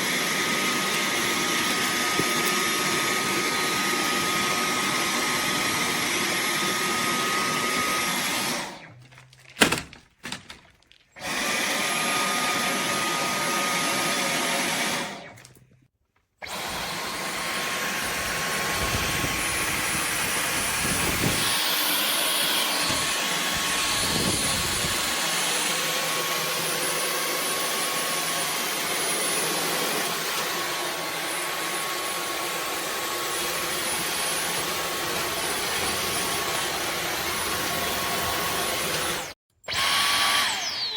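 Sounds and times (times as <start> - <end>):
vacuum cleaner running: 0.0 - 8.9, 11.2 - 15.4, 16.4 - 40.9.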